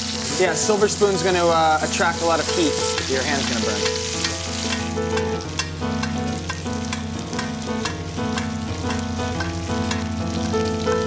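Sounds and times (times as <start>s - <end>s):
background music: 0.0s - 11.0s
butter sizzling and crackling: 0.0s - 11.0s.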